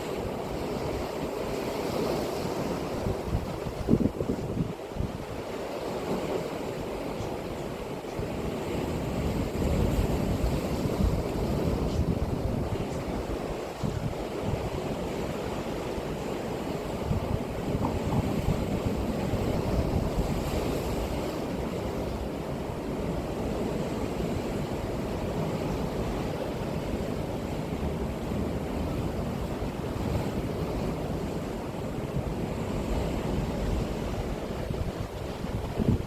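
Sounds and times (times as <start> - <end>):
sea waves breaking on shore: 0.0 - 36.0
wind buffeting microphone: 0.0 - 36.0.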